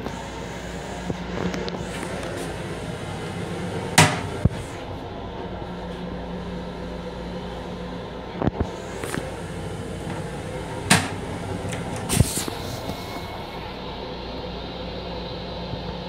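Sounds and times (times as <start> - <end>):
train car hum: 0.0 - 16.0.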